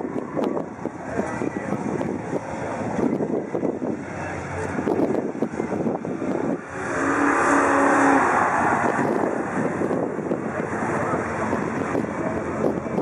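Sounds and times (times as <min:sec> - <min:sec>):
racing car engines: 0:00.0 - 0:13.0
wind buffeting microphone: 0:00.0 - 0:13.0.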